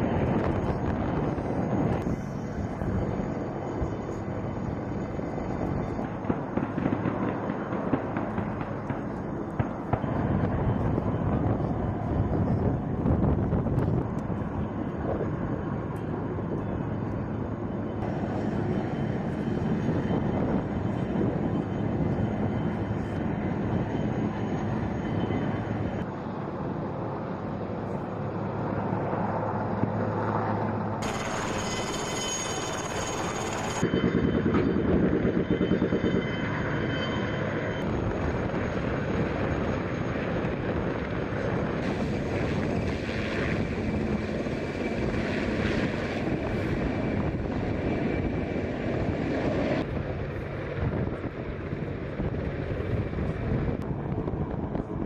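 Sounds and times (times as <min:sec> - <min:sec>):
aircraft engine drone: 0:00.0 - 0:55.0
military vehicle engines: 0:00.0 - 0:55.0.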